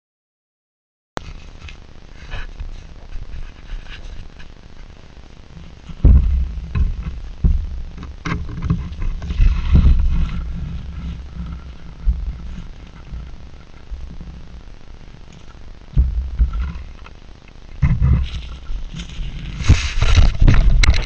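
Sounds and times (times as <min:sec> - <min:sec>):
low thumps and rumbles: 0:01.2 - 0:21.0.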